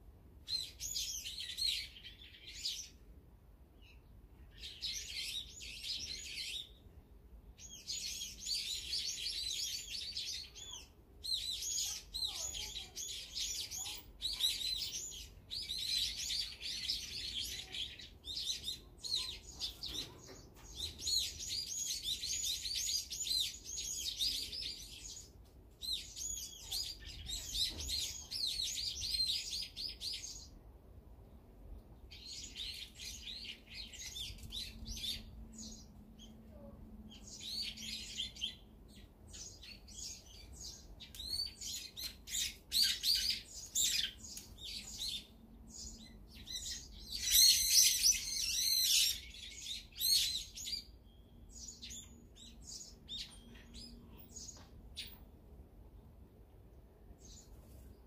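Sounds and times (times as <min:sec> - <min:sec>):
small songbirds chirping: 0:00.3 - 0:58.0.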